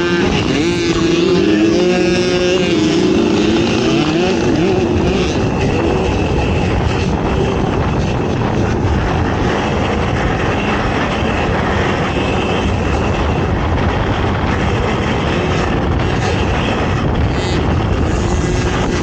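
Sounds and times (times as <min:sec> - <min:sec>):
atv engine running hard: 0:00.0 - 0:19.0.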